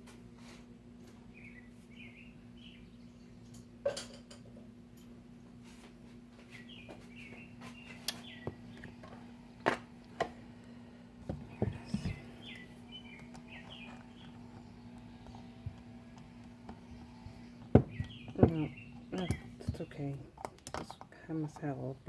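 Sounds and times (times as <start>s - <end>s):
steady low hum: 0.0s - 22.0s
small birds chirping: 1.1s - 3.8s, 6.4s - 22.0s.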